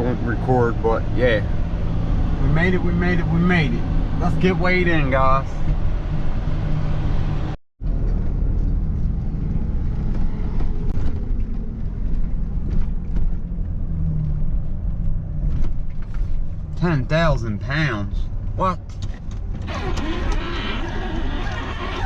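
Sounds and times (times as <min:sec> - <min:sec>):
pickup truck engine and road noise: 0:00.0 - 0:22.0.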